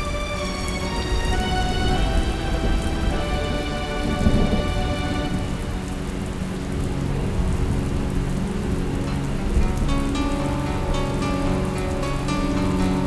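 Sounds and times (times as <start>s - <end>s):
heavy rain on road: 0.0s - 13.0s
soft background music: 0.0s - 13.0s
thunder rumble: 0.0s - 13.0s.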